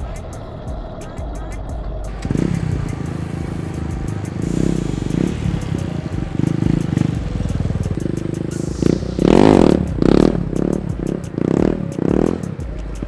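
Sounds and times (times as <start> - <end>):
motorcycle engine revving: 2.1 - 13.0.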